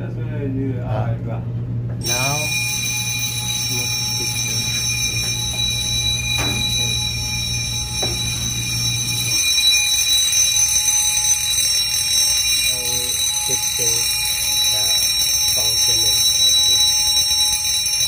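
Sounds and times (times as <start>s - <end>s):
low hum: 0.0s - 15.0s
fire alarm bell ringing: 2.0s - 18.0s.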